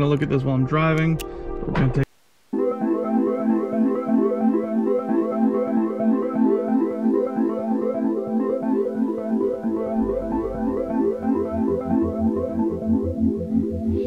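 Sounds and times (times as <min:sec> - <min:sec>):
synthesizer tune: 0:02.5 - 0:14.0
pulsing bass line: 0:02.6 - 0:14.0.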